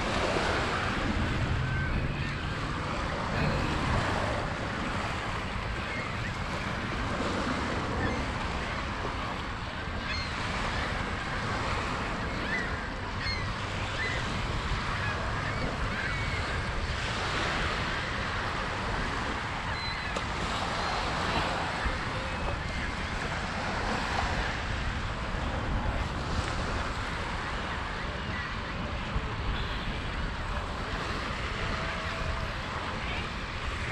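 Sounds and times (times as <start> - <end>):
waves washing on beach: 0.0 - 33.9
wind buffeting microphone: 0.0 - 33.9.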